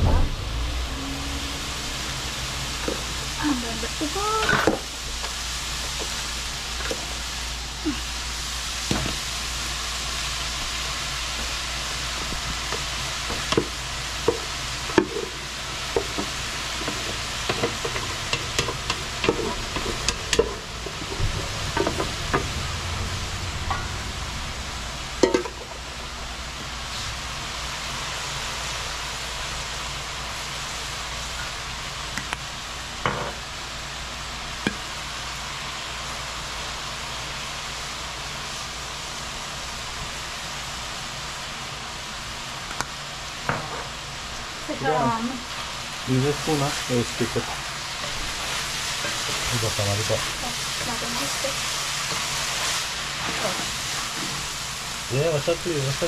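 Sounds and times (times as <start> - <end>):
shrimp and vegetables sizzling: 0.0 - 56.0.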